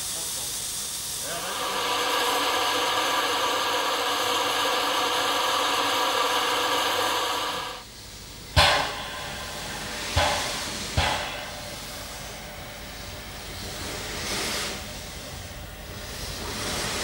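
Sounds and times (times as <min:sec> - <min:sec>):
steam hissing from a hose: 0:00.0 - 0:17.0
steam locomotive exhaust chuffs: 0:00.0 - 0:17.0.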